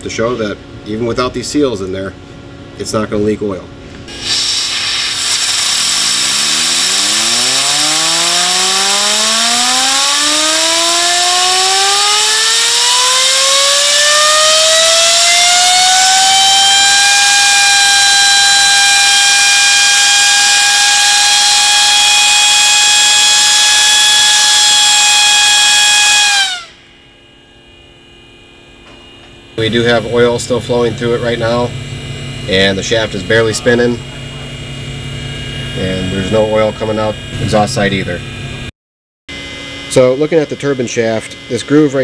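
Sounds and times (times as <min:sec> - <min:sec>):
turbocharger rush and rising whine: 0:04.1 - 0:26.9, 0:29.6 - 0:38.7, 0:39.3 - 0:42.0.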